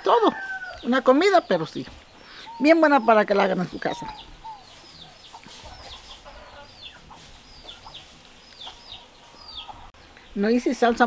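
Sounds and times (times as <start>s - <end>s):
bird chirping: 0.6s - 11.0s.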